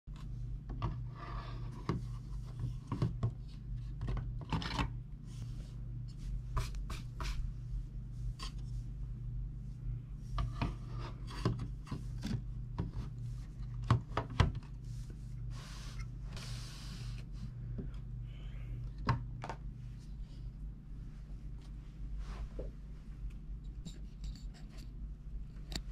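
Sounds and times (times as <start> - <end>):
steady low hum: 0.1 - 25.9.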